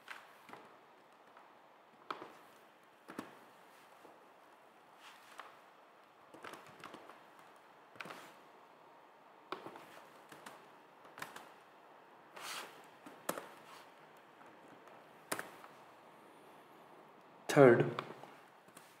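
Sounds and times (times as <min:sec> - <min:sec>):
soft hiss: 0:00.0 - 0:19.0.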